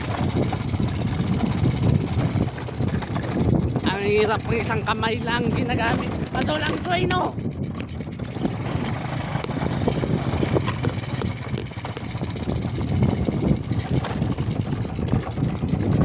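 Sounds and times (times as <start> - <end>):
knocks and rattles: 0.0 - 16.0
small motorcycle engine running: 0.0 - 16.0.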